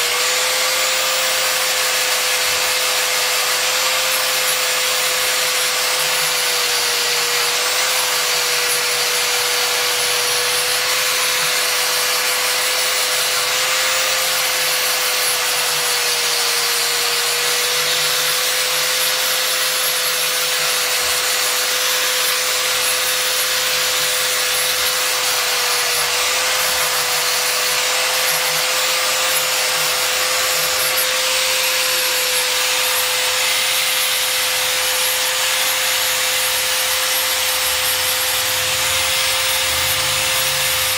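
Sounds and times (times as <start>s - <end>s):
angle grinder sanding wood: 0.0s - 40.9s.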